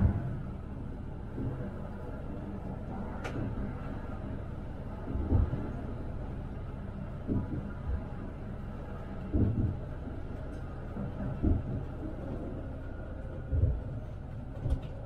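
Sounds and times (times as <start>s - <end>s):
tram rumbling on track: 0.0s - 15.0s.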